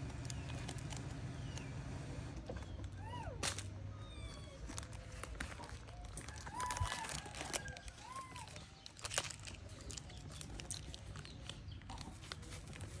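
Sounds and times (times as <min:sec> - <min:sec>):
snack wrappers crinkling: 0:00.0 - 0:01.6, 0:02.8 - 0:13.0.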